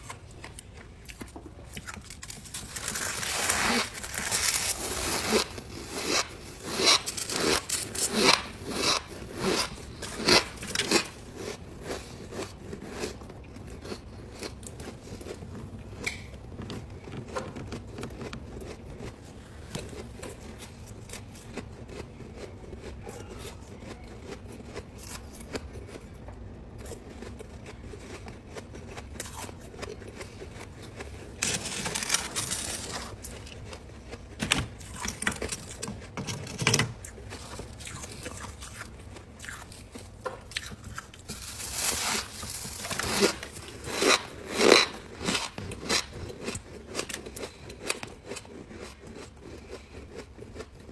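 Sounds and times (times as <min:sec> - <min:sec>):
ice crunching while chewed: 0:00.0 - 0:26.2, 0:26.8 - 0:50.9.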